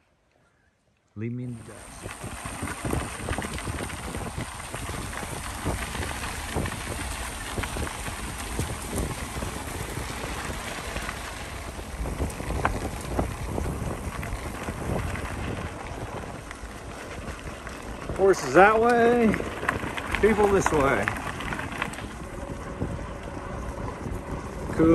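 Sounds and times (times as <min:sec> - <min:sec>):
bicycle tyres on gravel: 0:01.2 - 0:24.9
wind rumbling on microphone: 0:01.4 - 0:24.9.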